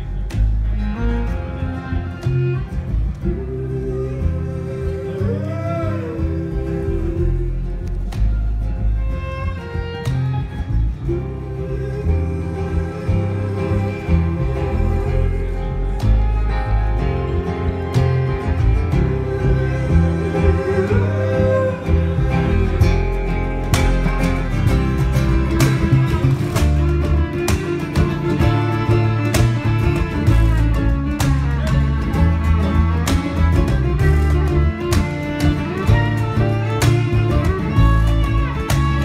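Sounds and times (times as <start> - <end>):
fiddle: 0.0 - 39.0
strummed acoustic guitar: 0.0 - 39.0
upright bass line: 0.0 - 39.0.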